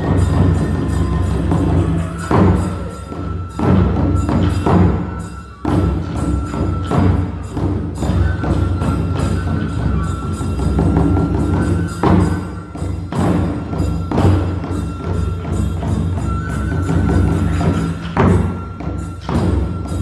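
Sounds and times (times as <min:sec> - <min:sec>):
barrel drum beats: 0:00.0 - 0:20.0.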